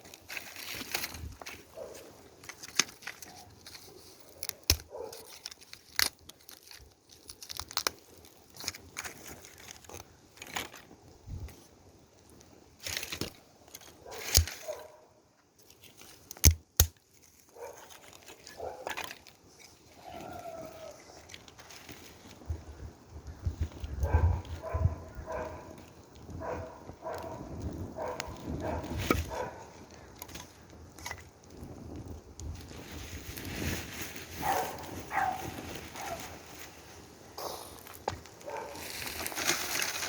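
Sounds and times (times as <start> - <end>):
firewood snapping and crinkling: 0.0 - 40.0.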